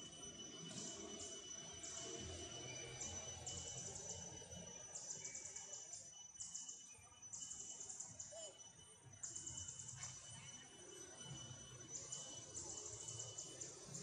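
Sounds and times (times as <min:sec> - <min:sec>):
insects trilling: 0:00.0 - 0:14.0
thin steady high tone: 0:00.0 - 0:14.0.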